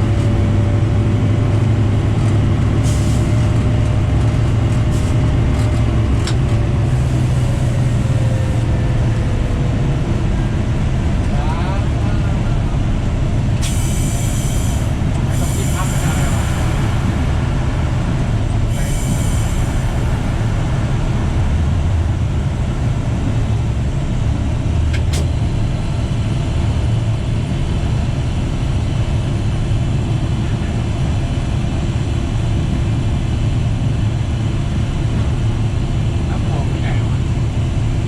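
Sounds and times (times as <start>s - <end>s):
diesel train rumbling: 0.0s - 38.0s.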